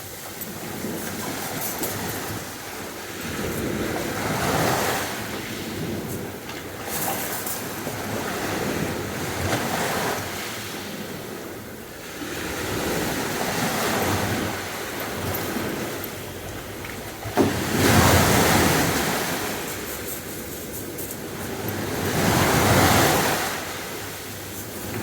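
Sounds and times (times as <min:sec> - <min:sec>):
sea waves breaking: 0:00.0 - 0:25.0.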